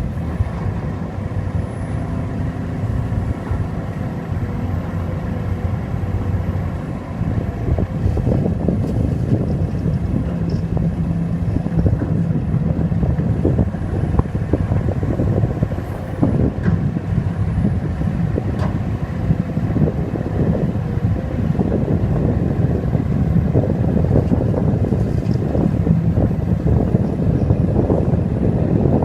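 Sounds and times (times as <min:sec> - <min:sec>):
dump truck diesel engine: 0:00.0 - 0:29.0
excavator diesel engine: 0:00.0 - 0:29.0
wind buffeting microphone: 0:00.0 - 0:29.0.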